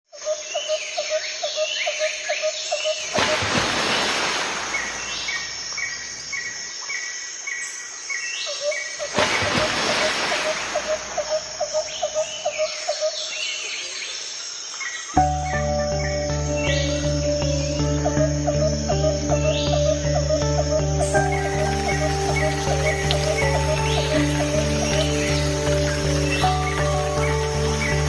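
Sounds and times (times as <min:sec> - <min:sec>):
birds calling: 0:00.5 - 0:28.0
high insect drone: 0:00.5 - 0:28.0.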